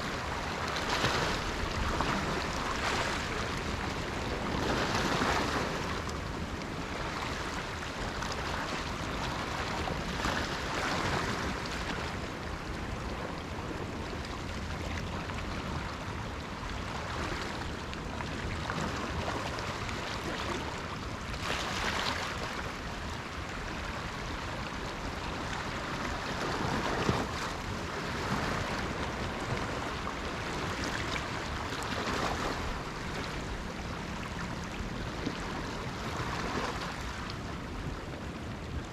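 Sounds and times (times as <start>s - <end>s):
sea waves breaking: 0.0s - 38.9s
wind rumble on microphone: 0.0s - 38.9s.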